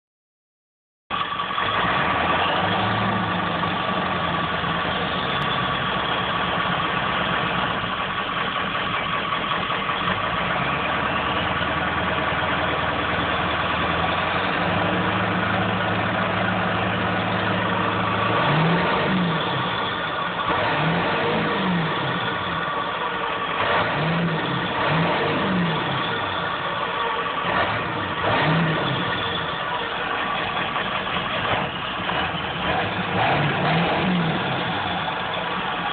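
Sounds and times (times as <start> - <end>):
diesel engine running: 1.1 - 35.9
engine revving: 1.5 - 7.8, 10.1 - 35.9.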